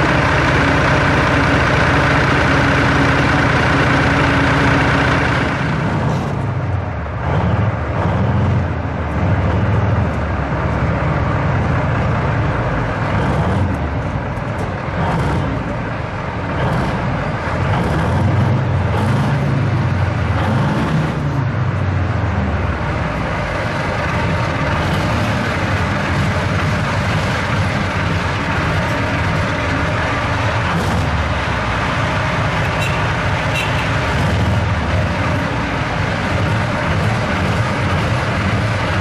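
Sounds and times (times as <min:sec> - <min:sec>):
tank diesel engine rumbling: 0:00.0 - 0:39.0.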